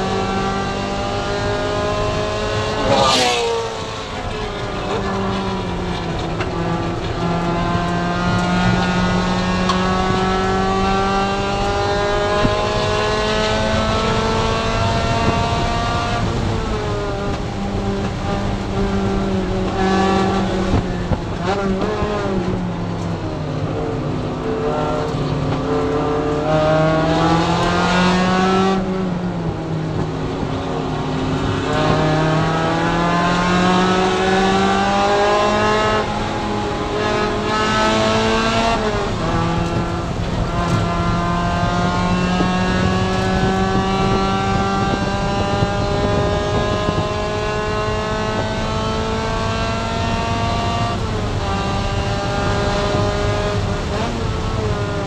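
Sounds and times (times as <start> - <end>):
race car engine under load: 0.0 - 55.0.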